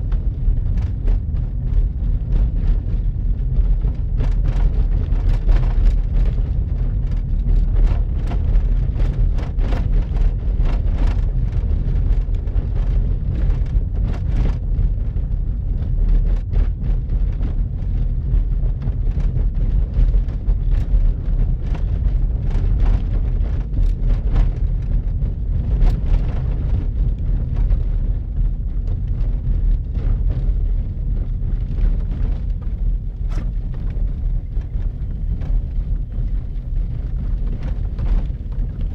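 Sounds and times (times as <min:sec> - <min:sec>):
car rumbling on snowy road: 0:00.0 - 0:38.9.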